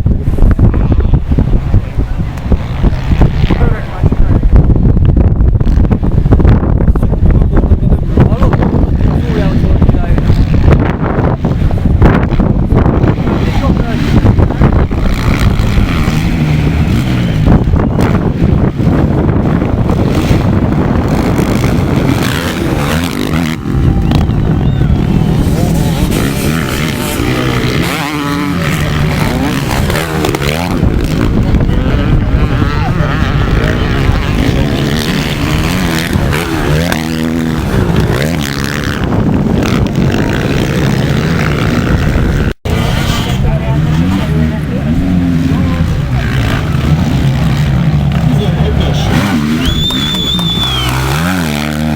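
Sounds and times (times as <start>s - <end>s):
motorcycle engines racing: 0.0s - 51.9s.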